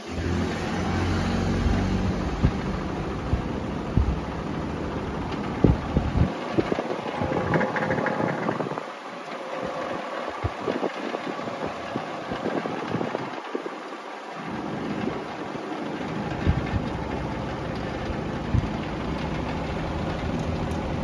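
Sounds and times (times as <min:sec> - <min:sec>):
box fan running: 0:00.0 - 0:21.0
light rattling of loose parts: 0:02.2 - 0:21.0.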